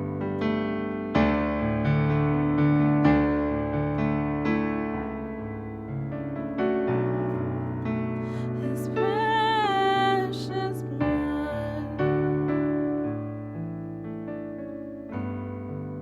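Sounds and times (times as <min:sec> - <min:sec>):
slow worship piano music: 0:00.0 - 0:16.0.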